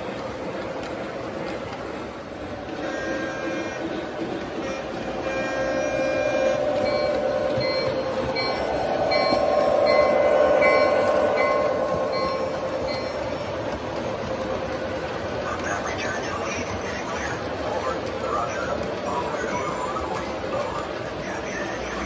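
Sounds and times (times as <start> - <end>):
model train motor humming: 0.0 - 21.1
model train wheels rolling: 0.0 - 22.0.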